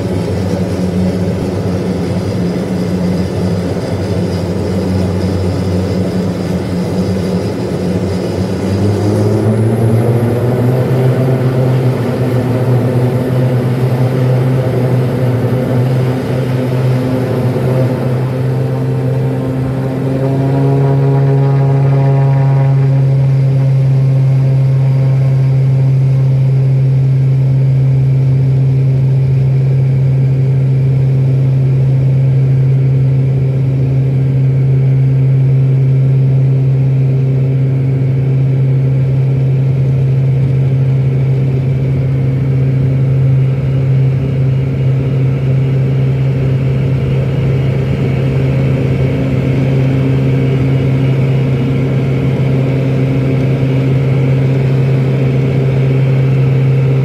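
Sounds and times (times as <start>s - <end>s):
propeller drone in cabin: 0.0s - 57.0s.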